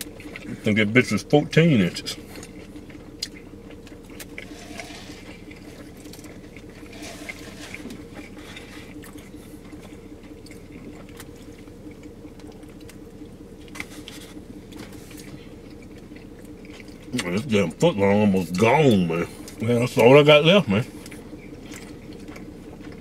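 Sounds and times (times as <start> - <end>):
steady low hum: 0.0 - 23.0
wet chewing and lip-smacking: 0.0 - 23.0.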